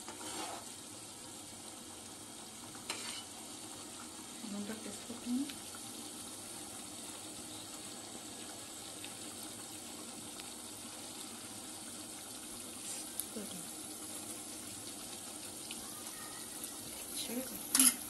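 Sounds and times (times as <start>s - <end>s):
gravy simmering and bubbling: 0.0s - 18.0s.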